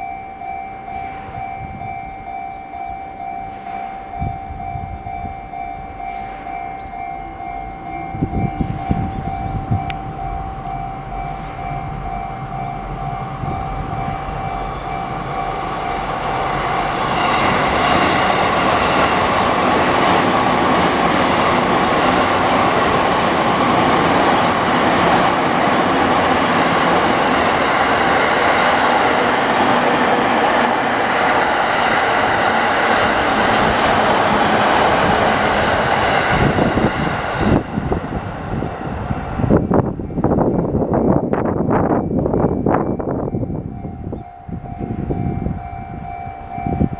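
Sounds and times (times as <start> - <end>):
level crossing warning bell: 0.0 - 38.0, 39.4 - 46.9
train passing over crossing: 0.0 - 46.9.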